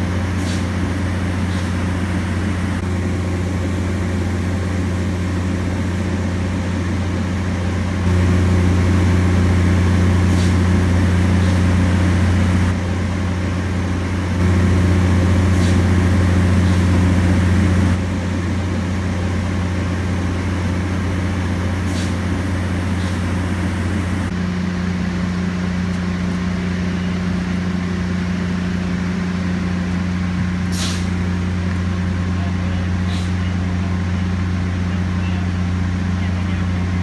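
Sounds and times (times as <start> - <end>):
diesel engines humming: 0.0 - 37.0.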